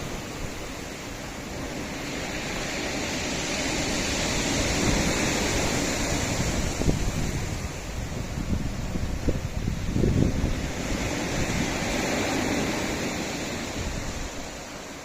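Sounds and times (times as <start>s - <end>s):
sea waves on rocky shore: 0.0s - 15.0s.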